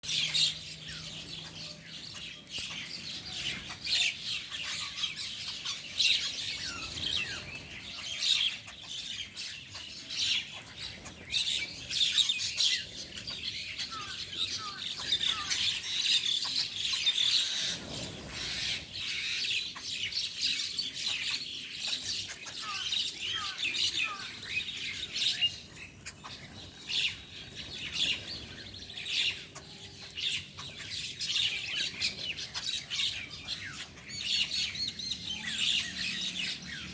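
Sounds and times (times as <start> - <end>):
small birds chirping and squawking: 0.0 - 36.9.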